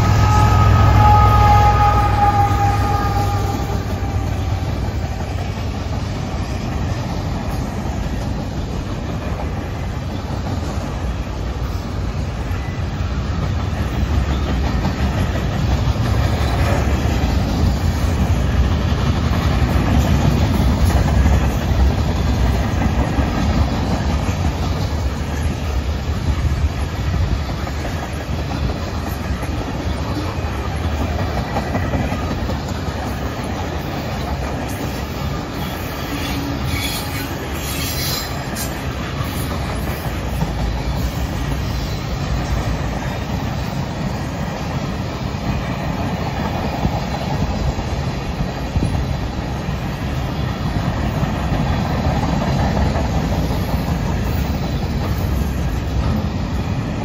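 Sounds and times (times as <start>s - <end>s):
diesel locomotive whine: 0.0s - 57.0s
train cars rumbling: 0.0s - 57.0s.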